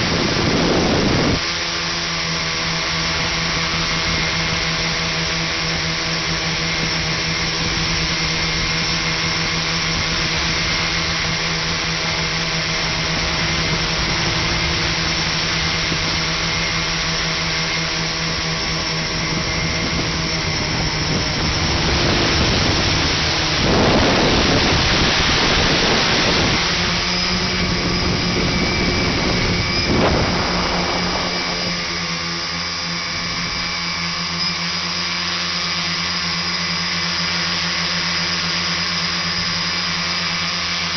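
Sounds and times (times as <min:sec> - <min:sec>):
wind rushing over microphone: 0:00.0 - 0:01.5, 0:02.5 - 0:34.4
electric motors and propellers droning: 0:00.0 - 0:40.9.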